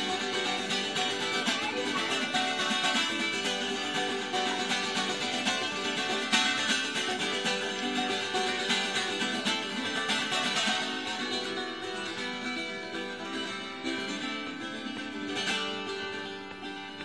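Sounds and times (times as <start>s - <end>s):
steel-strung guitar picking: 0.0s - 17.0s.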